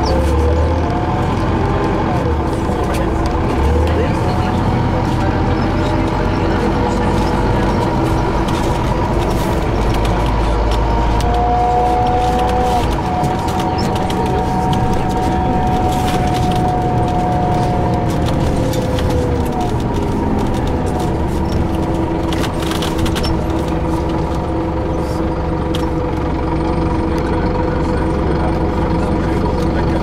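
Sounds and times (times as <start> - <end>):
bus drive whine: 0.0 - 30.0
low rumble: 0.0 - 30.0
rattles and clicks in cabin: 0.0 - 30.0.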